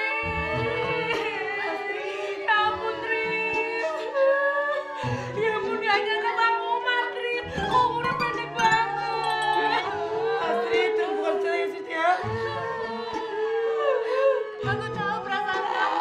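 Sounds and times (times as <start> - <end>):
soft musical accompaniment: 0.0 - 16.0.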